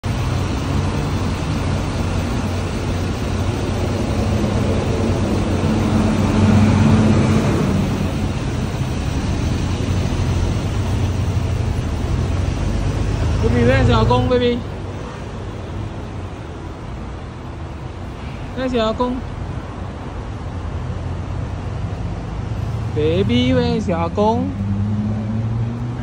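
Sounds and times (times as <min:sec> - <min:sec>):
road traffic engine hum: 0:00.0 - 0:26.0
vehicles passing: 0:00.0 - 0:26.0.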